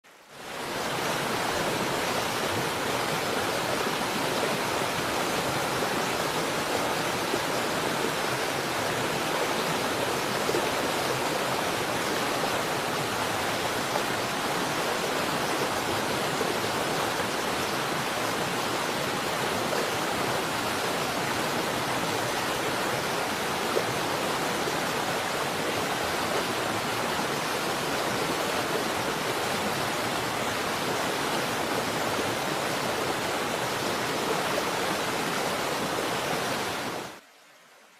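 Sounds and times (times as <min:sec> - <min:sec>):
river rushing over rocks: 0:00.1 - 0:37.2.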